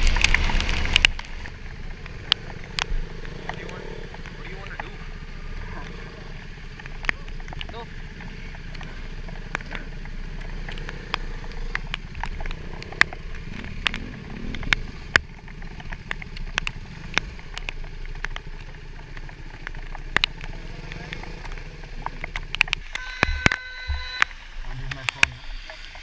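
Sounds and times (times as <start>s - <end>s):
motorcycle engines idling: 0.0s - 26.0s
rain clicking on camera housing: 0.0s - 26.0s.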